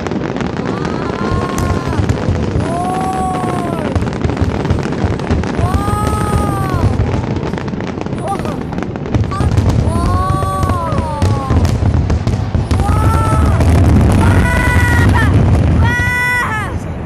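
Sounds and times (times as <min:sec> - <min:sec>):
fireworks crackling and bursting: 0:00.0 - 0:17.0
whistling fireworks: 0:00.0 - 0:17.0.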